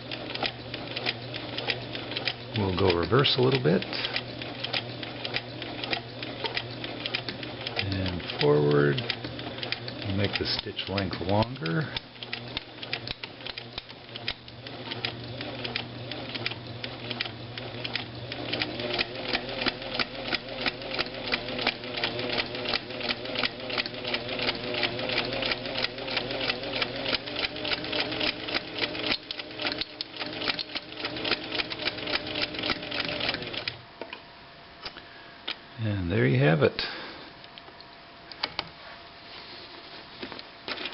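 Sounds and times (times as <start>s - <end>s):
sewing machine running: 0.0s - 33.8s.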